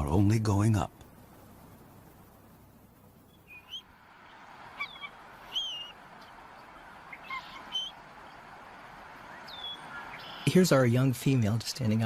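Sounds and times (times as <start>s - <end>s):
steady background hiss: 0.0s - 12.0s
eagles chirping: 1.2s - 11.2s.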